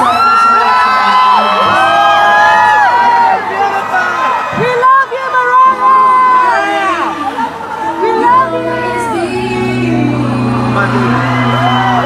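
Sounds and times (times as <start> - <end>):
concert crowd screaming and cheering: 0.0 - 12.0.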